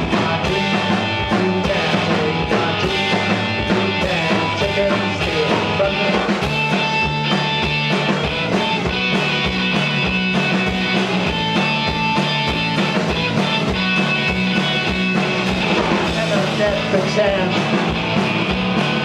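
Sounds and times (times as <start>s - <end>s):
bass guitar: 0.0s - 19.0s
electric guitars: 0.0s - 19.0s
steady drum beat: 0.0s - 19.0s.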